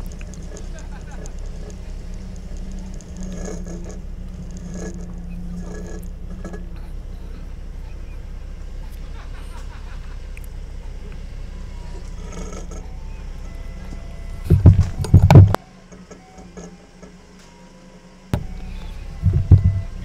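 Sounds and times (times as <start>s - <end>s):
forklift engine running: 0.0s - 20.0s.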